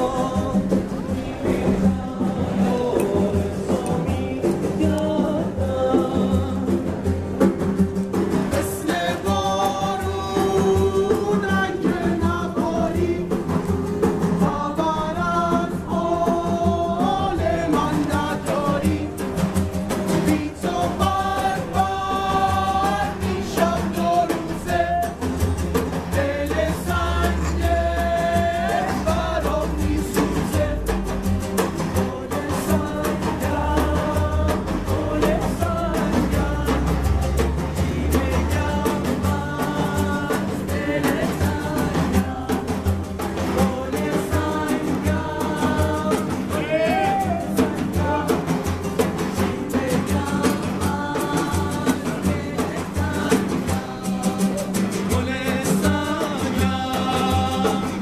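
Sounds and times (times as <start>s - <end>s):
hand-played frame drum: 0.0s - 58.0s
strummed acoustic guitars: 0.0s - 58.0s
voices singing together: 0.0s - 58.0s.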